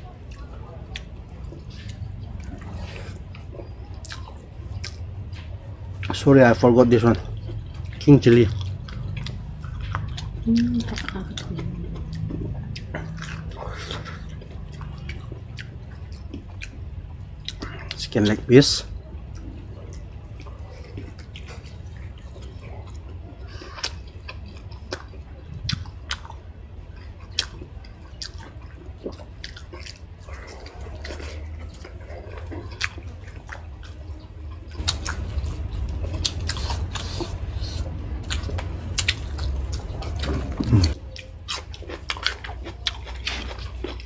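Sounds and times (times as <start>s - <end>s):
people chewing food: 0.0s - 44.0s
steady low hum: 0.0s - 44.0s.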